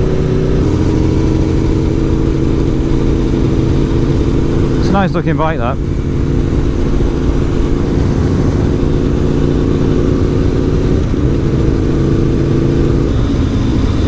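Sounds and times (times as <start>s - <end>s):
motorcycle engine cruising: 0.0s - 14.0s
road noise: 0.0s - 14.0s
wind noise: 0.0s - 14.0s.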